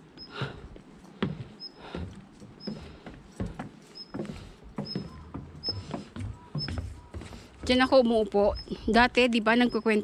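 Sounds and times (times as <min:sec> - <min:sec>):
footsteps walking: 0:00.0 - 0:08.8.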